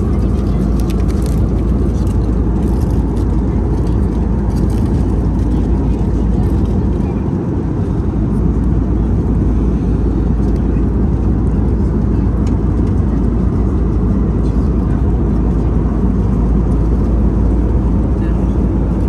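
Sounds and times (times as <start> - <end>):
aircraft cabin rumble: 0.0 - 19.0.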